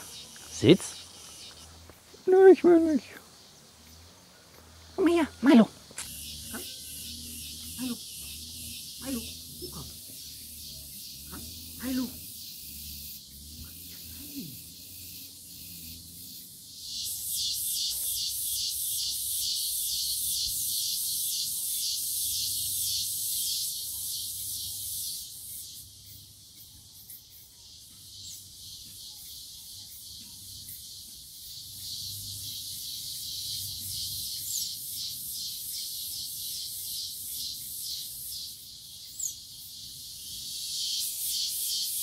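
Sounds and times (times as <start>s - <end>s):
insects buzzing: 0.0s - 42.0s.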